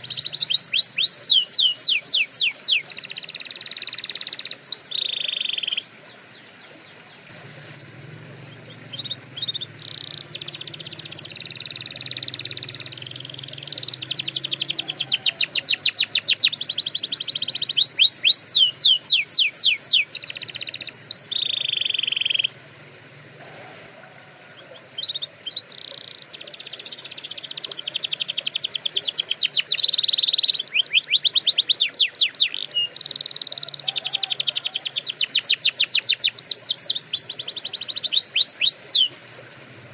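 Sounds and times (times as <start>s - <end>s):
canary singing trills: 0.0s - 22.6s, 23.5s - 39.9s.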